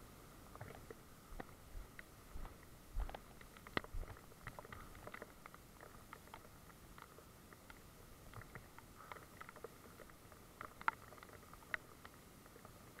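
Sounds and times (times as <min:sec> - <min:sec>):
raindrops tapping: 0:00.6 - 0:13.0.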